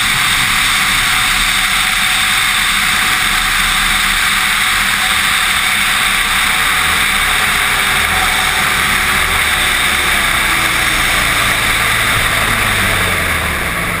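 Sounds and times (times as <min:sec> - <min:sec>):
loud rushing noise: 0:00.0 - 0:14.0
snowmobile engine running: 0:00.0 - 0:14.0.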